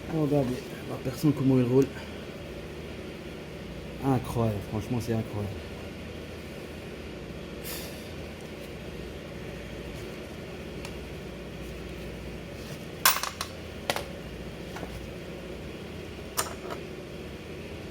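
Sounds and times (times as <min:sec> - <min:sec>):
low workshop hum: 0:00.0 - 0:17.9.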